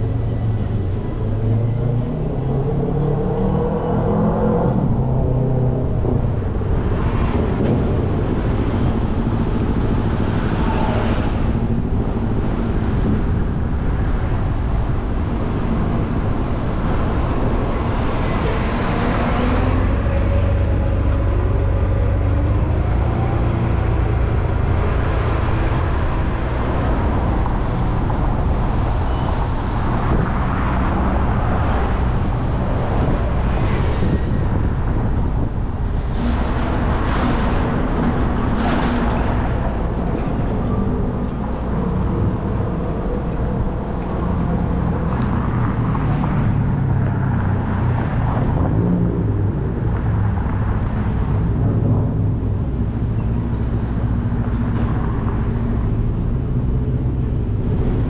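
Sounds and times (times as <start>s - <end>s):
car road and engine rumble: 0.0s - 58.0s
surrounding traffic: 0.0s - 58.0s.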